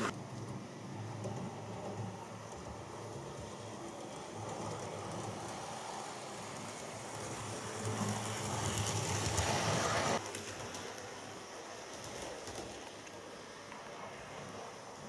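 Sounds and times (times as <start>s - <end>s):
model train rumbling whirr: 0.0s - 15.0s.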